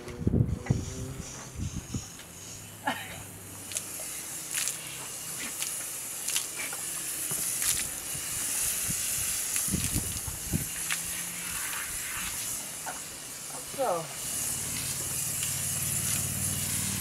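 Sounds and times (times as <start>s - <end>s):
water spraying from hose: 1.9s - 17.0s.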